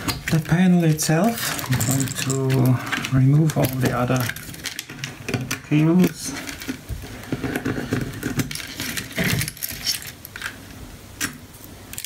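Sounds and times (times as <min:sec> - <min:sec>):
cables rustling: 0:00.0 - 0:10.6.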